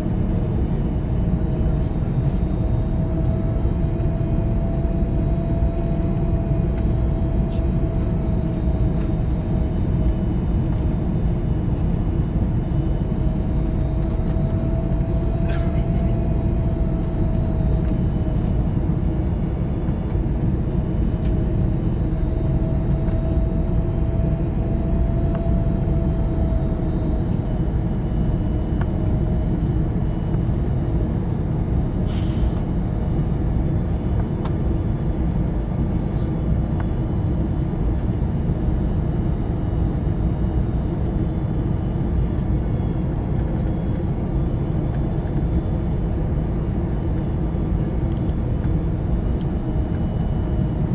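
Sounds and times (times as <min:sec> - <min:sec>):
airplane cabin rumble: 0:00.0 - 0:50.9
faint steady whine: 0:00.0 - 0:50.9.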